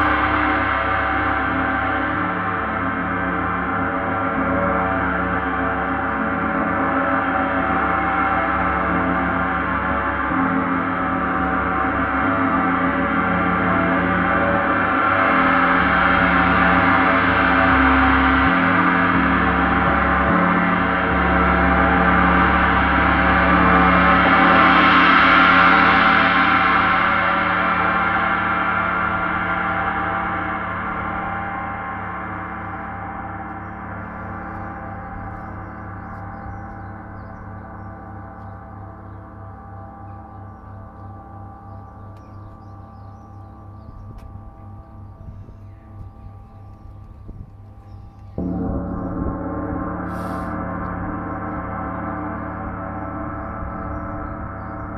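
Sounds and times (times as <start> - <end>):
gong ringing: 0.0 - 54.9.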